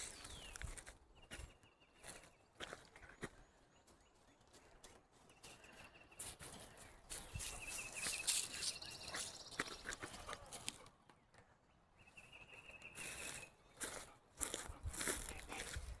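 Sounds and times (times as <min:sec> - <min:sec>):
footsteps in undergrowth: 0:00.0 - 0:11.0, 0:12.4 - 0:16.0.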